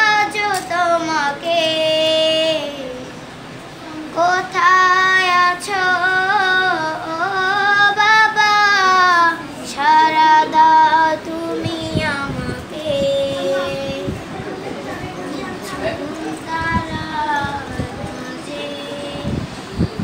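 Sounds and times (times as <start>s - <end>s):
child singing: 0.0s - 3.2s, 4.0s - 14.2s, 15.4s - 19.6s.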